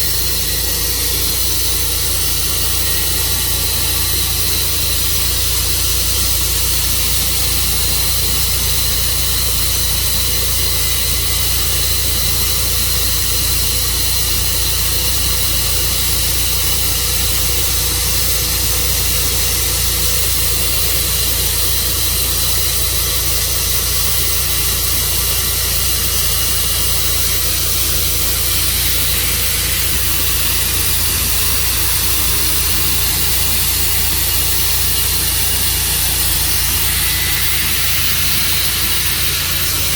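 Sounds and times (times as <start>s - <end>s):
sawmill running with high whine: 0.0s - 39.9s.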